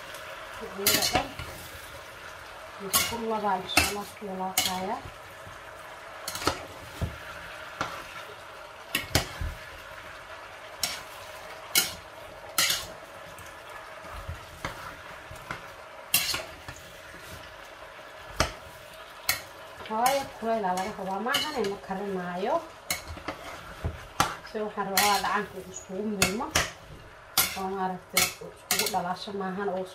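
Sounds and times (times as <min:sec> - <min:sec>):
vegetables sizzling in oil: 0:00.0 - 0:29.9
spatula scraping pan: 0:00.7 - 0:01.8, 0:02.8 - 0:05.4, 0:06.2 - 0:09.8, 0:10.8 - 0:13.1, 0:14.0 - 0:17.5, 0:18.2 - 0:29.2.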